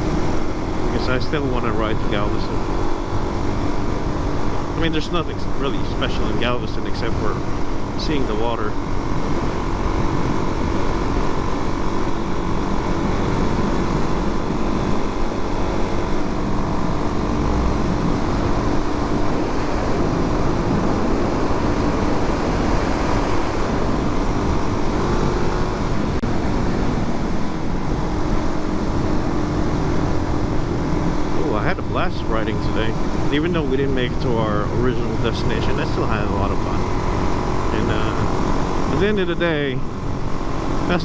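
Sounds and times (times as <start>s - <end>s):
motorcycle engine running: 0.0s - 41.0s
wind noise: 0.0s - 41.0s.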